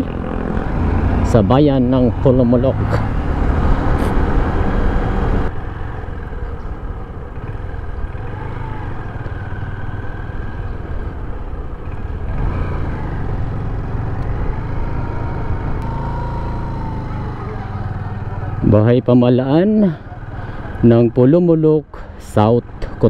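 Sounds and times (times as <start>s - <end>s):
motorcycle engine running: 0.0s - 20.9s
road and wind noise: 0.0s - 23.0s.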